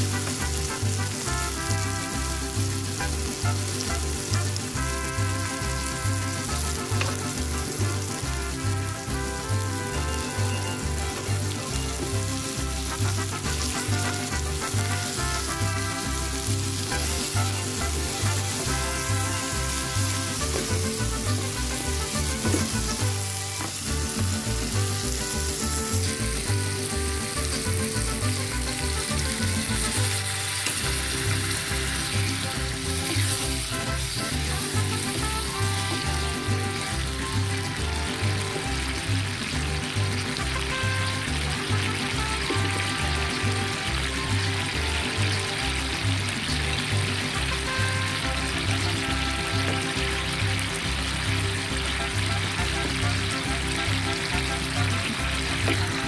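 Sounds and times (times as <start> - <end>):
background music with bass: 0.0 - 56.0
vegetables sizzling in a frying pan: 0.0 - 56.0.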